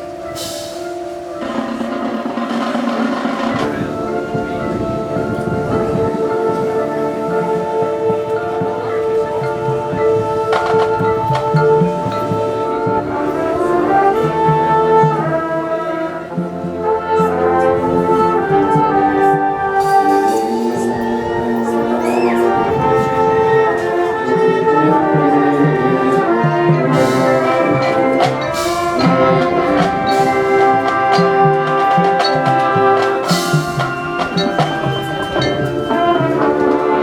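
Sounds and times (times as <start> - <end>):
marching band playing: 0.0 - 37.0
sharp percussion hits: 0.0 - 37.0.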